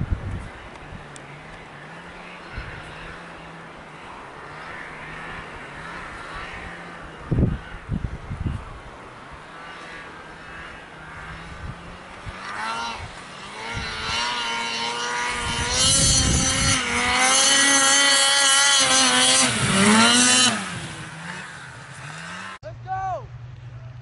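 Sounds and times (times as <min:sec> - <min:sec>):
snowmobile engine revving: 0:00.5 - 0:23.0.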